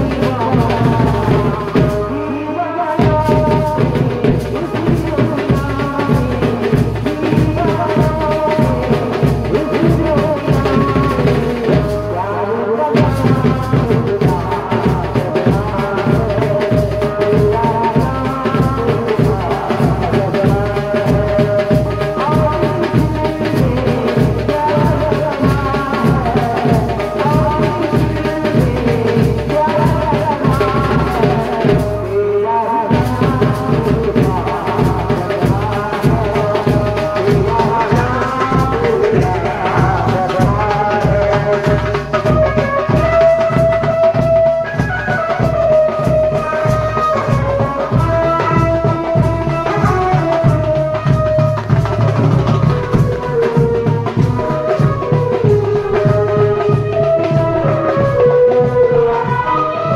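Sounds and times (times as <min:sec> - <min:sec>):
background music with drum beat: 0:00.0 - 0:59.9.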